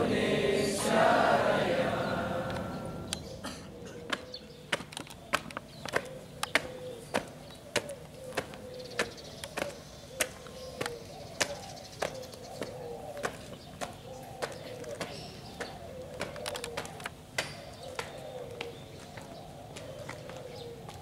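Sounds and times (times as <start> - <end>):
marching footsteps on brick: 4.0 - 21.0.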